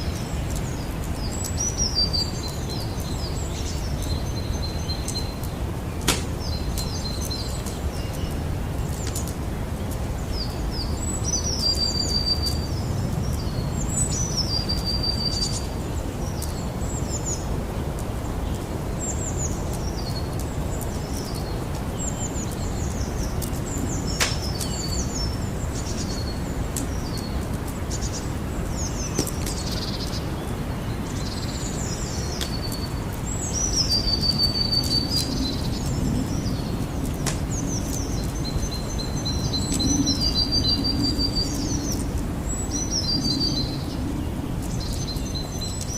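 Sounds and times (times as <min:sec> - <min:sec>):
campfire rumbling and popping: 0:00.0 - 0:11.1, 0:15.9 - 0:45.9
songbird singing: 0:00.0 - 0:45.9.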